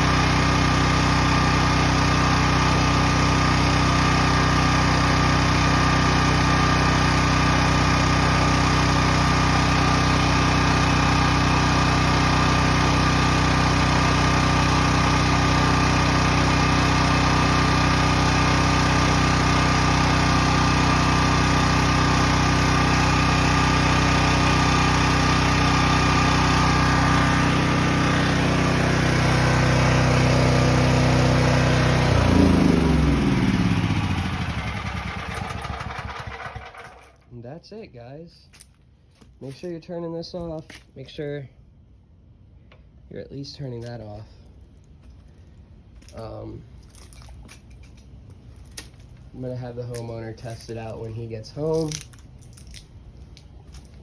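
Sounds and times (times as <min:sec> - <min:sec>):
generator engine running: 0:00.0 - 0:37.3, 0:43.5 - 0:54.0.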